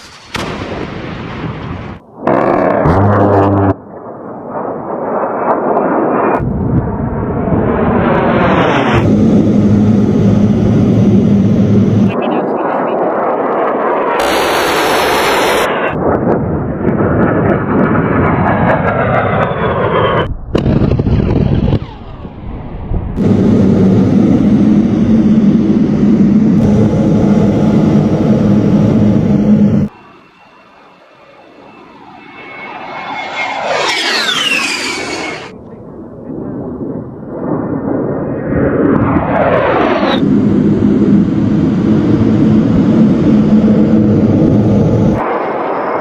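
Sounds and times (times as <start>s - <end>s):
jet engine noise: 0.0s - 46.0s
jet passing by: 0.0s - 46.0s.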